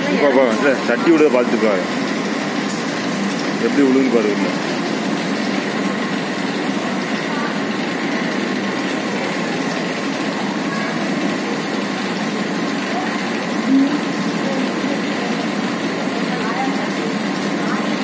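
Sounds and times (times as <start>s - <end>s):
machinery fans droning: 0.0s - 18.0s.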